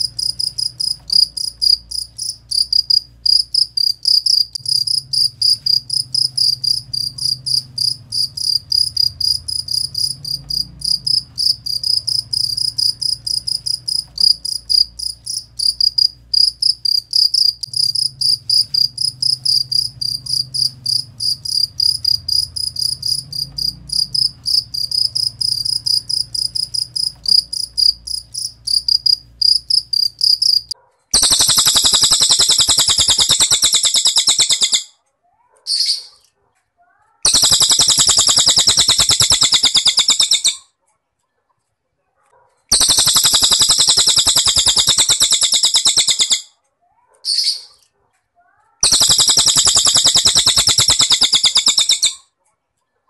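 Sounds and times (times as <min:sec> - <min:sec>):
bird buzzing trill: 0:00.0 - 0:34.8, 0:37.3 - 0:40.5, 0:42.7 - 0:46.4, 0:48.8 - 0:52.0
cricket chirping: 0:00.0 - 0:34.9, 0:37.3 - 0:40.6, 0:42.7 - 0:46.4, 0:48.8 - 0:52.2.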